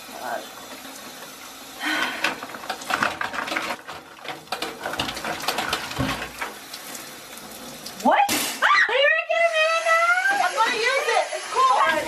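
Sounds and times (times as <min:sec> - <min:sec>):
shower spray running: 0:00.0 - 0:12.0.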